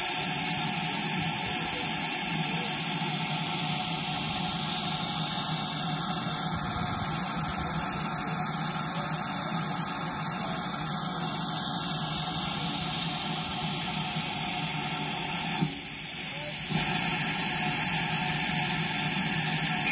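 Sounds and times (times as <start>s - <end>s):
steam hissing from locomotive: 0.0s - 19.9s.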